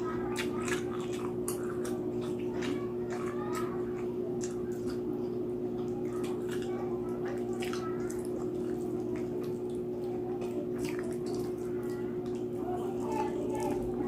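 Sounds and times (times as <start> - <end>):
steady low hum: 0.0 - 14.0
wet chewing and mouth smacking: 0.0 - 14.0.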